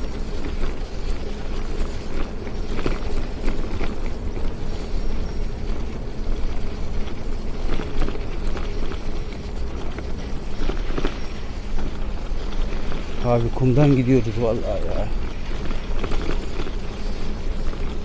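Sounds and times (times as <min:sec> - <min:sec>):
bicycle clicking and rattling: 0:00.0 - 0:18.0.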